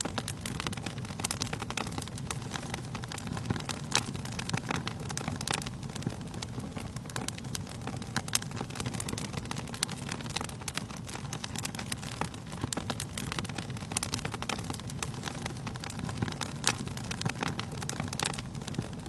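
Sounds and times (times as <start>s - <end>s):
burning logs crackling and popping: 0.0s - 19.0s
fire flames rumbling: 0.0s - 19.0s.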